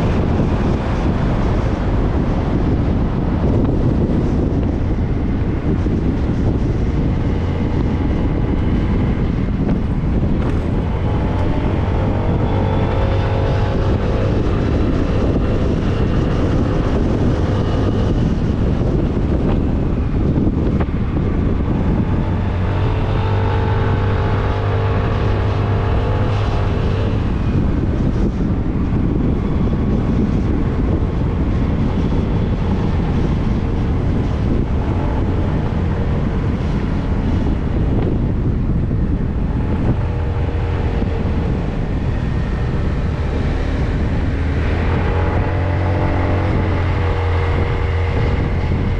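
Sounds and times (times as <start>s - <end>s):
motorcycle engine hum: 0.0s - 48.9s
wind rushing over microphone: 0.0s - 48.9s.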